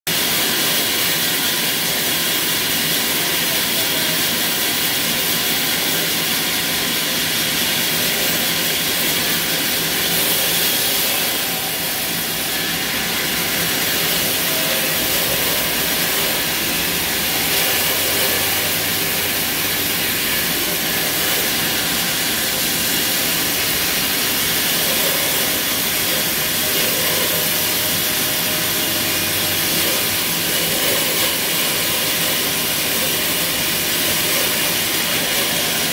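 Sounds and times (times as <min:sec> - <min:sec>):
band saw whining through log: 0:00.1 - 0:35.9.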